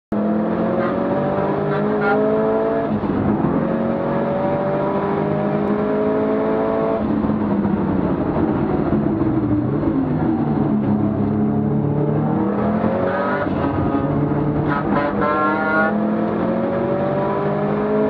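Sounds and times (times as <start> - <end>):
race car engine under full throttle: 0.1 - 18.0.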